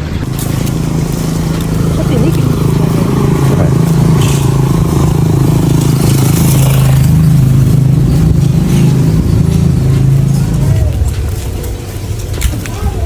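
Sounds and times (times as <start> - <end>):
engine running loudly: 0.0 - 13.0.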